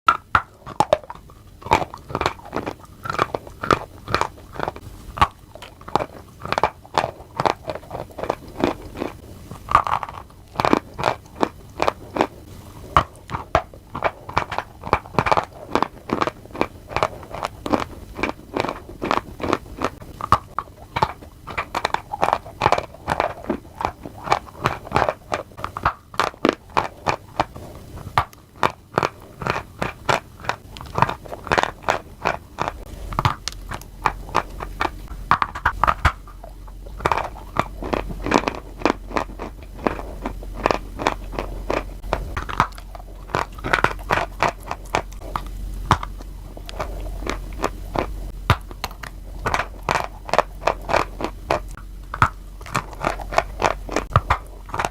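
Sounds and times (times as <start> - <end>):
crunchy food chewing: 0.1 - 54.9.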